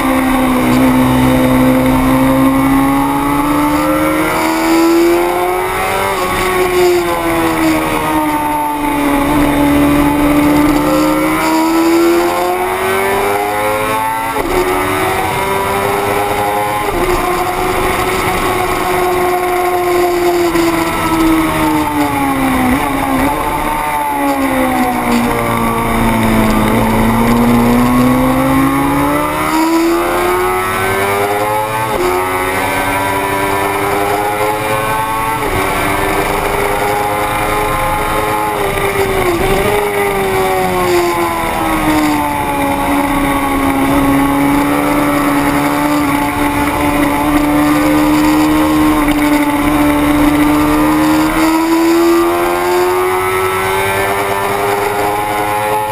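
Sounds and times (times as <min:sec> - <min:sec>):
racing motorcycle engine revving: 0:00.0 - 0:55.9.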